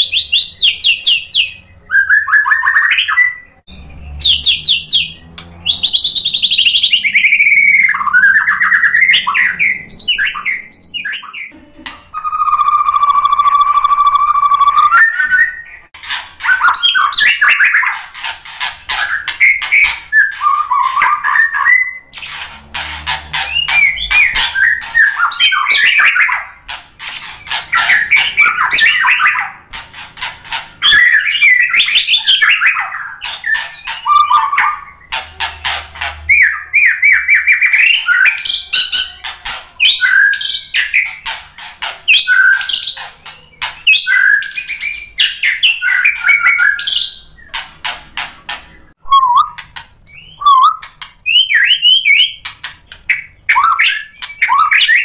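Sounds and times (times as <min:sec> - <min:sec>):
bird singing with trills: 0:00.0 - 0:55.0.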